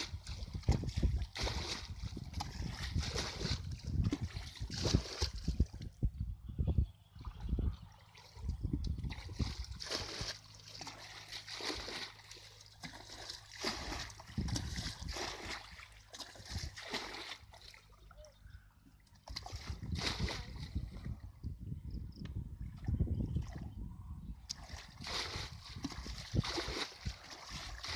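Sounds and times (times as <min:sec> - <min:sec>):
water splashing: 0:00.0 - 0:06.0, 0:07.2 - 0:18.4, 0:19.0 - 0:21.1, 0:24.5 - 0:27.9
low steady hum: 0:00.0 - 0:27.9.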